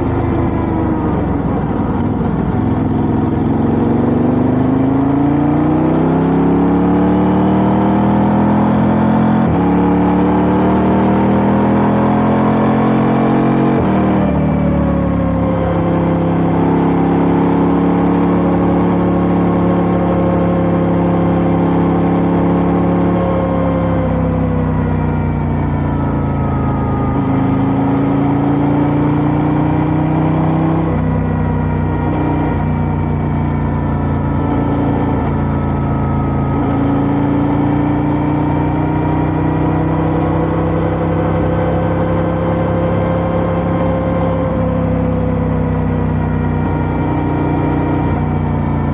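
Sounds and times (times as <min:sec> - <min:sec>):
motorcycle engine running: 0:00.0 - 0:07.0, 0:13.8 - 0:48.9.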